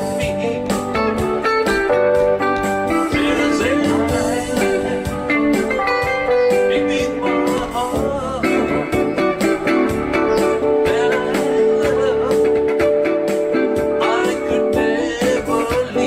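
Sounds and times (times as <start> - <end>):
live guitar music with beat: 0.0 - 16.0.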